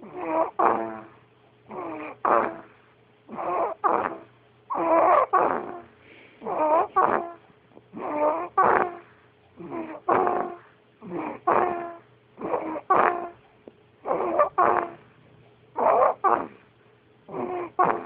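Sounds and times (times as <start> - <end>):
dog snoring: 0.0 - 13.4, 14.0 - 15.2, 15.8 - 16.7, 17.3 - 18.0.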